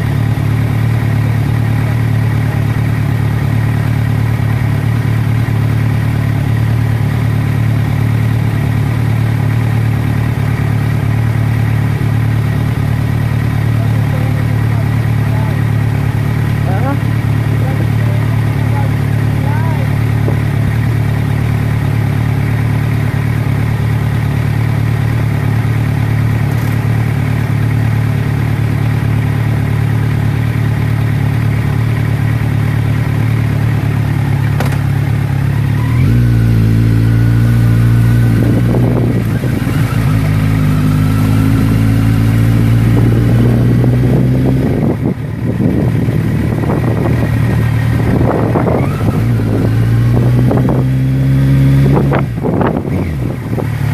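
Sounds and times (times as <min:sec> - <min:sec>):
engine running loudly: 0:00.0 - 0:53.9.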